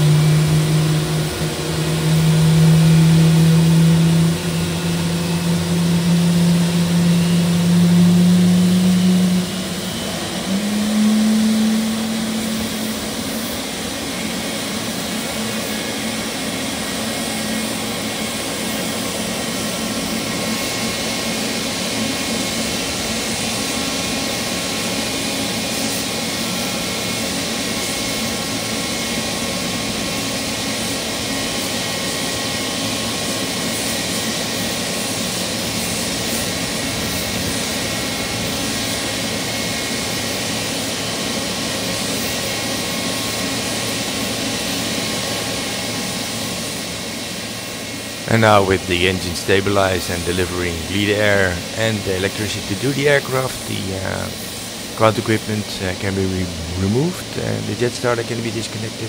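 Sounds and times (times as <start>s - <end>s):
jet engine idling: 0.0s - 59.0s.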